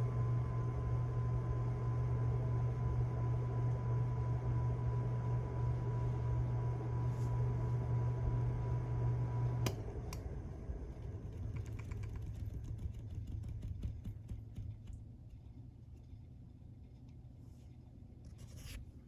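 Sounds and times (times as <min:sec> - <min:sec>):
ceiling fan motor humming: 0:00.0 - 0:19.0.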